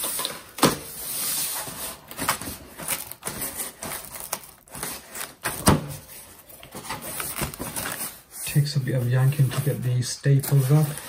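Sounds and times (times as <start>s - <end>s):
cardboard scraping and crackling: 0.9s - 11.0s.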